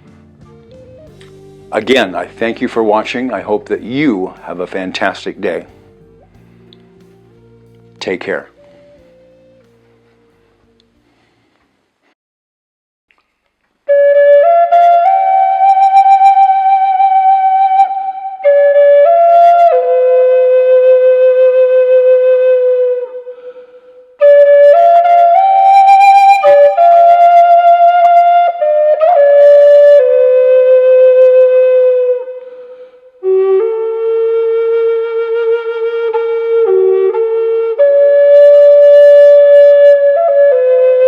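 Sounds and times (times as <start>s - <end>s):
flute playing slow melody: 0.0s - 11.1s, 13.9s - 41.0s.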